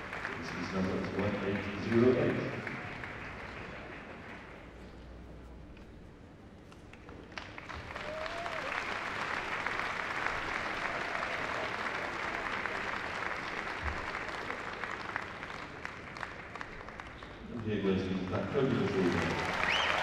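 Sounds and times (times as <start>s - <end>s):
large audience applauding: 0.0s - 4.8s, 7.0s - 20.0s.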